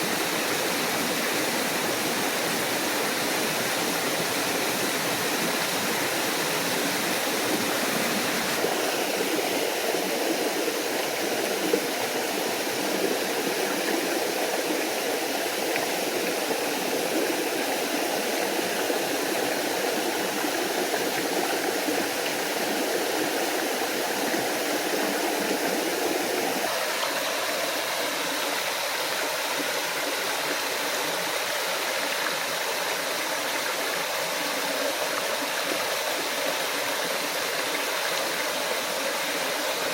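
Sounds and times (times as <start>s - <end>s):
water rushing and splashing: 0.0s - 39.9s.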